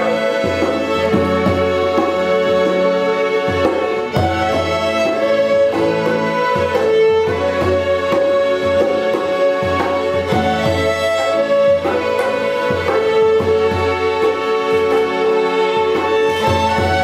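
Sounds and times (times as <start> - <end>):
violins bowing a tune: 0.0 - 17.0.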